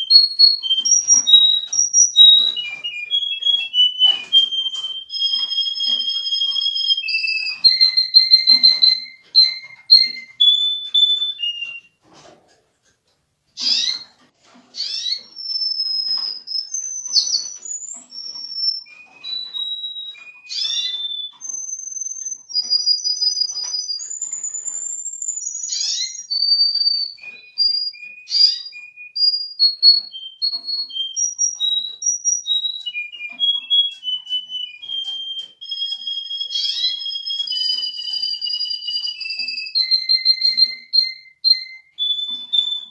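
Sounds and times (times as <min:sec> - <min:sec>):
canary singing: 0:00.0 - 0:12.4, 0:13.6 - 0:42.9.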